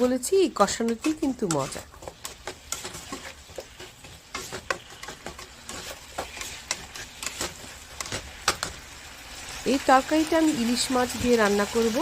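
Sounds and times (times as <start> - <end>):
food sizzling in a pan: 0.0 - 12.0
spatula scraping a pan: 0.0 - 12.0.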